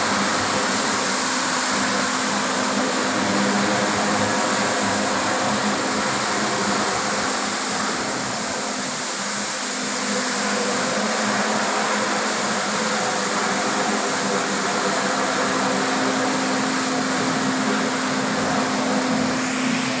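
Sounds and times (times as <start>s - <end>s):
floor scrubber motor hum: 0.0s - 20.0s.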